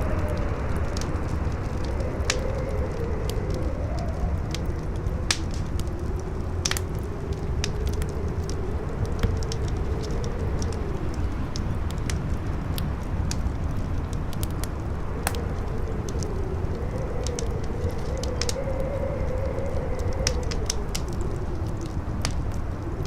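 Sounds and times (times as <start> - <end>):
campfire crackling and popping: 0.0 - 23.0
howling wind: 0.0 - 23.0.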